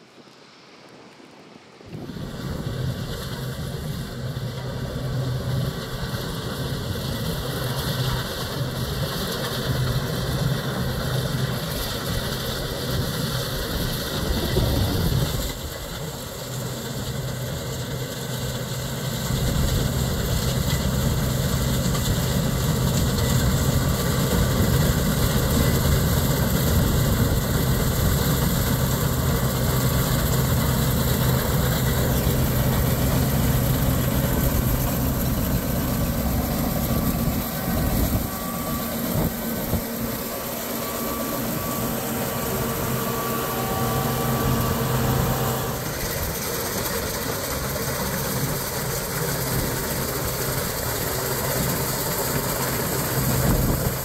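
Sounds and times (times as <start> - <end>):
combine harvester droning: 1.9 - 54.0
thin whine: 1.9 - 54.0.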